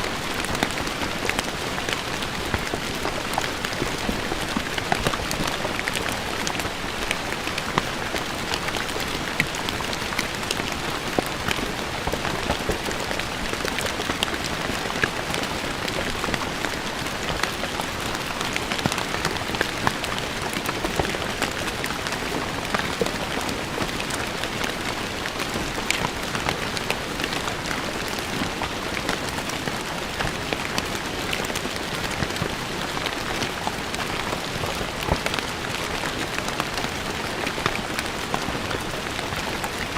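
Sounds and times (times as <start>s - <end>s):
rain falling on stone paving: 0.0s - 39.9s.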